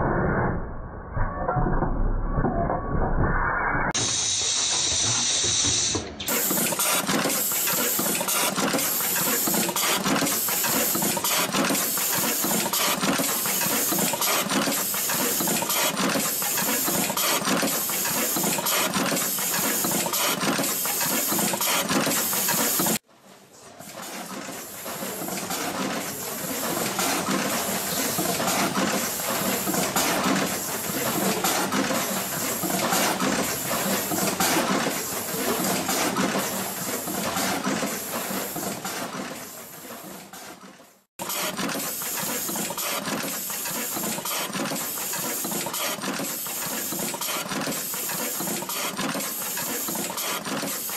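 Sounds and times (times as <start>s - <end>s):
machine hissing: 4.0s - 23.0s, 24.5s - 40.1s, 41.2s - 50.9s
machine mechanism clattering: 4.0s - 23.0s, 23.8s - 50.9s.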